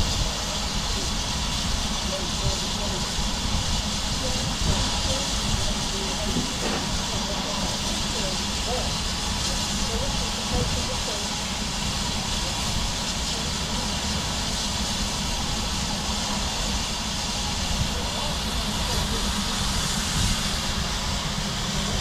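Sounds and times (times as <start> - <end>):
steam hissing from locomotive: 0.0 - 22.0.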